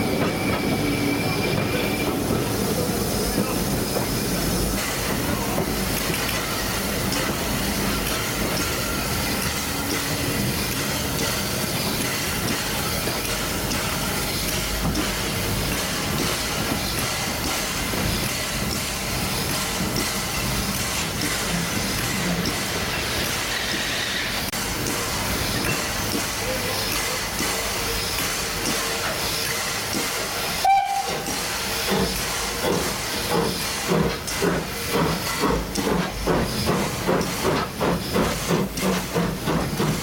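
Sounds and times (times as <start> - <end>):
steam hissing: 0.0 - 40.0
train wheels rumbling on rails: 0.0 - 40.0.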